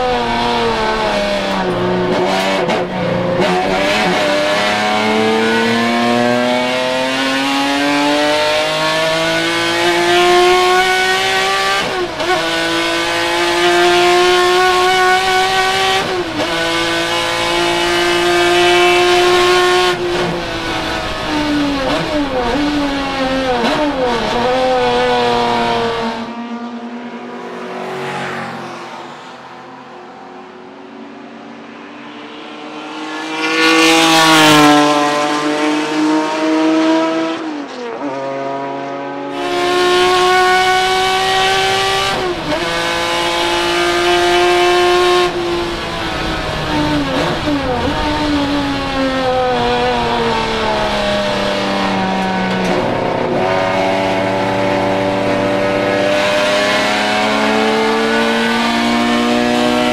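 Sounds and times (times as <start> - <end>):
racing engine revving through gears: 0.0 - 29.6, 31.4 - 59.9
racing car passing: 0.0 - 59.9.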